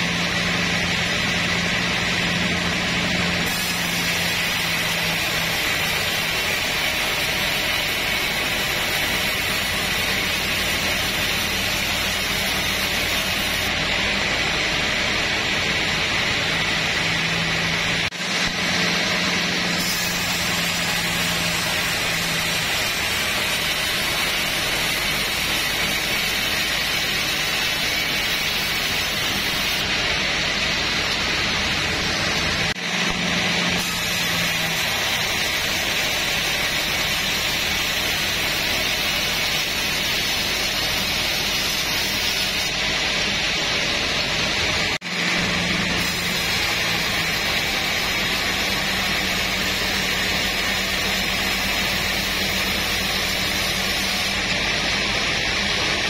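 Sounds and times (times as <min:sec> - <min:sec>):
band saw motor hum: 0:00.0 - 0:56.0
saw blade hissing through wood: 0:00.0 - 0:56.0.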